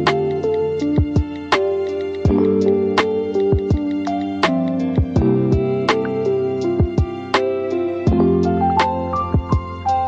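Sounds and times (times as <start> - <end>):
gentle drum beat: 0.0 - 10.0
soft instrumental music: 0.0 - 10.0.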